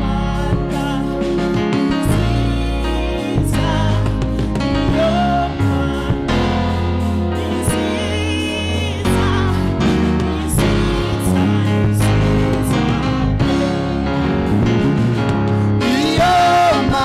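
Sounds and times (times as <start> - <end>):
gospel choir singing: 0.0 - 17.0
instrumental accompaniment with bass: 0.0 - 17.0.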